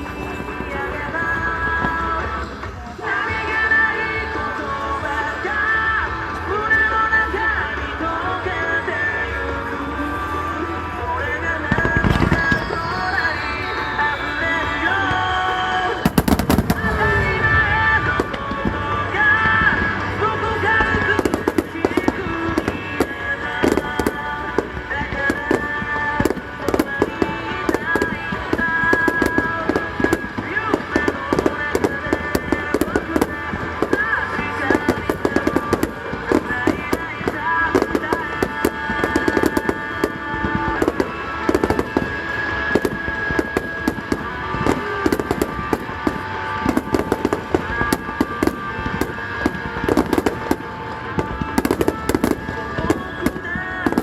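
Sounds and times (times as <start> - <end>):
fireworks bursting: 0.0 - 54.0
pop song playing: 0.0 - 54.0.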